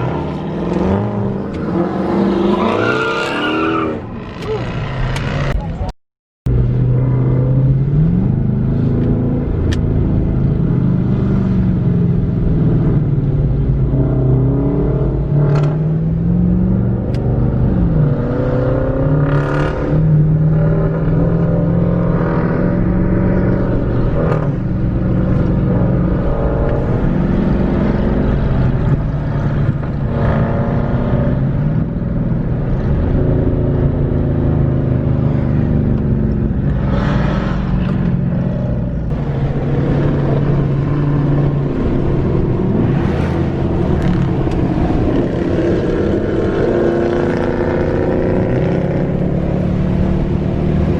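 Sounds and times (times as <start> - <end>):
car engines revving: 0.0 - 5.9, 6.5 - 50.9.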